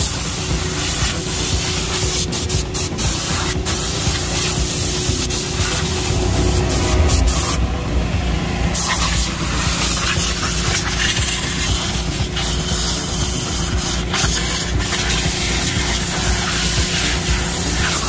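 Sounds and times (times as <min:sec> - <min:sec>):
hissing air jet: 0:00.0 - 0:07.6, 0:08.7 - 0:18.0.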